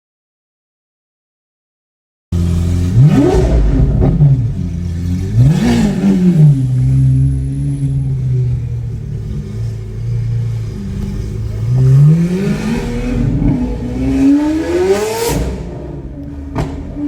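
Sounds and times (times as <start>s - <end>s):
sports car engine accelerating: 2.3s - 17.0s.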